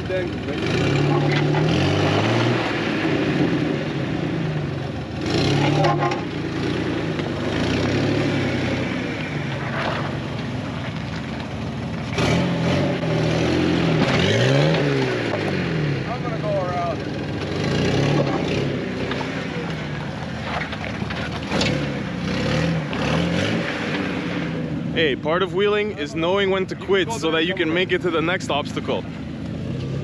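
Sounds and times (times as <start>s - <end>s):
off-road vehicle engine under load: 0.0s - 30.0s.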